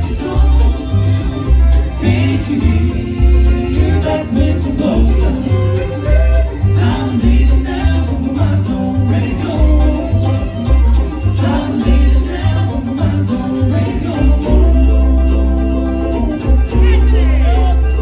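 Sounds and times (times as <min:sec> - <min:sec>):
bluegrass string instruments: 0:00.0 - 0:18.0
upright bass pulsing: 0:00.0 - 0:18.0.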